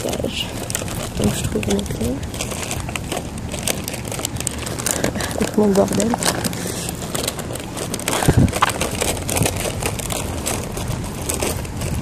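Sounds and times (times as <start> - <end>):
bag rustling: 0.0 - 12.0.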